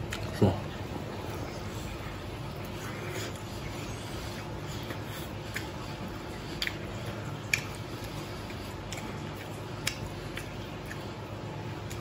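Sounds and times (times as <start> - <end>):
chewing crispy fried chicken: 0.0 - 12.0
steady low hum: 0.0 - 12.0.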